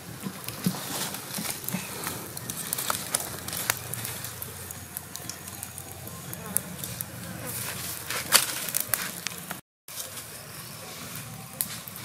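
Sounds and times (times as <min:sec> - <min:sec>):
wood fire crackling and popping: 0:00.0 - 0:10.4, 0:11.0 - 0:12.0.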